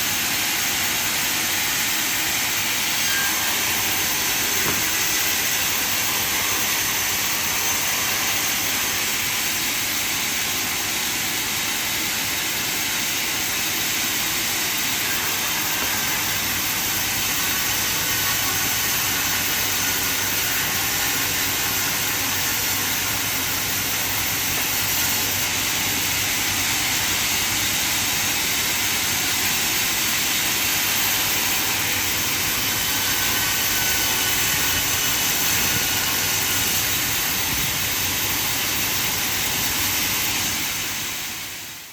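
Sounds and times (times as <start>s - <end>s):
band sawmill running: 0.0s - 41.9s.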